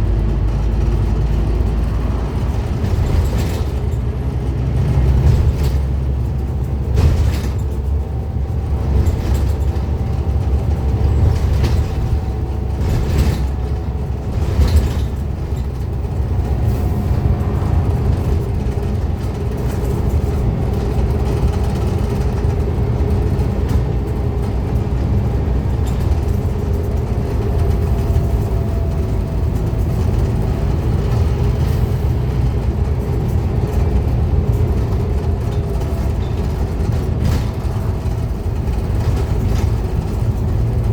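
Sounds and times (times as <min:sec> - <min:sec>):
bus engine and road noise: 0:00.0 - 0:40.9.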